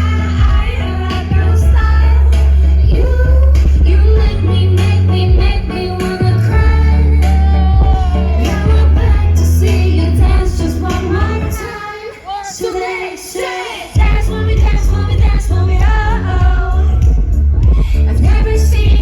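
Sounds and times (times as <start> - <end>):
bass-driven pop track: 0.0 - 12.6, 14.0 - 19.0
female voices singing: 0.0 - 19.0.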